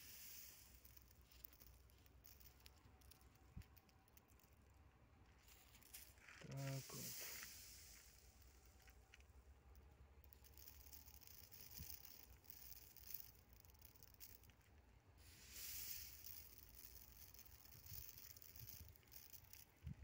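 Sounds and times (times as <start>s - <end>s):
grain trickling from a hand: 0.0s - 20.0s.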